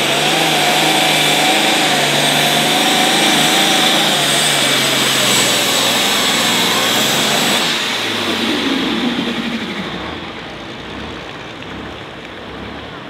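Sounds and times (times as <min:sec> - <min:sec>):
diesel engine running hard: 0:00.0 - 0:13.0
high turbo whine: 0:00.0 - 0:13.0.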